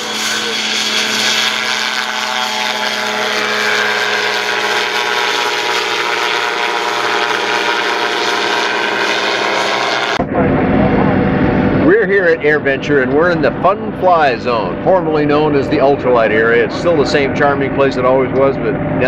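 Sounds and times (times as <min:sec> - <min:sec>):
ultralight aircraft engine and propeller: 0:00.0 - 0:19.0.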